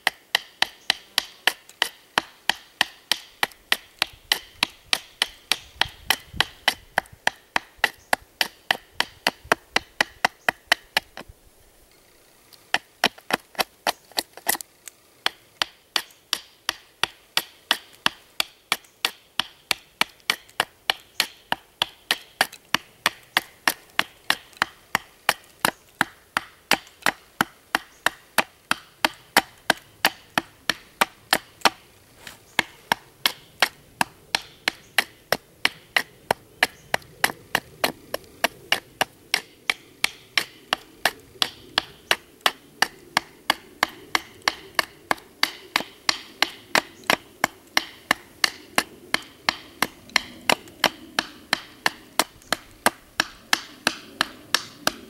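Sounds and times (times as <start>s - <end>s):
knife chopping wood: 0.0s - 11.3s, 12.5s - 55.0s.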